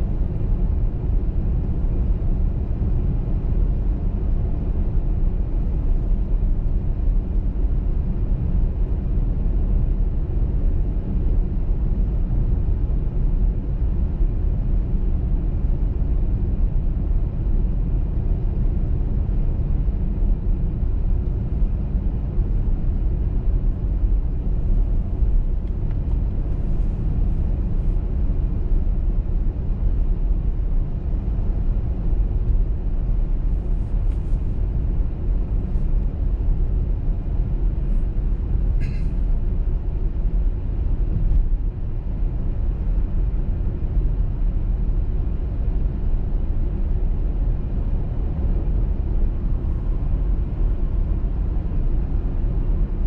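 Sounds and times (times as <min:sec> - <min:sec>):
car tyres and engine rumble: 0:00.0 - 0:53.0.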